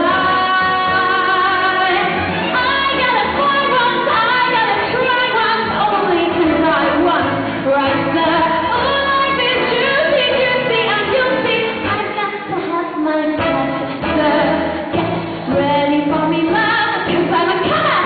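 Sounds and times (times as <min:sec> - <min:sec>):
woman singing a show tune: 0:00.0 - 0:14.8, 0:15.5 - 0:18.0
instrumental accompaniment: 0:00.0 - 0:18.0.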